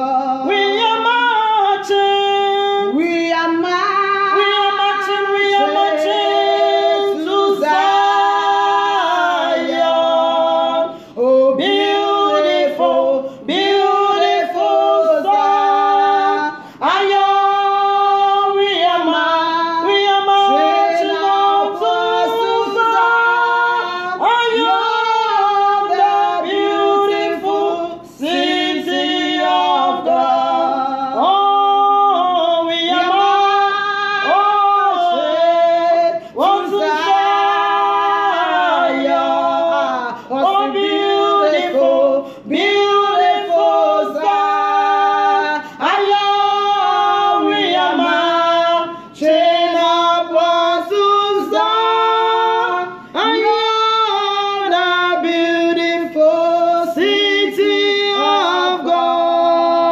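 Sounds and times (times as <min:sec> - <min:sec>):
women singing unaccompanied: 0:00.0 - 0:59.9.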